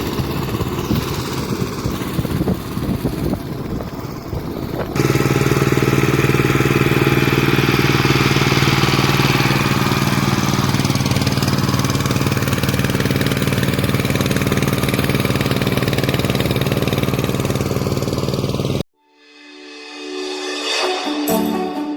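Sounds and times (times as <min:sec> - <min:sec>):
diesel tiller engine running: 0:00.0 - 0:18.8.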